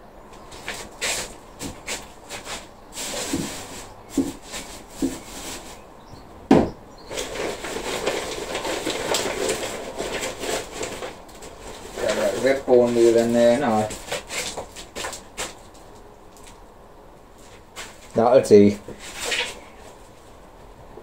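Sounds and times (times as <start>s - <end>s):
rustling: 0.3s - 6.2s, 7.0s - 20.8s.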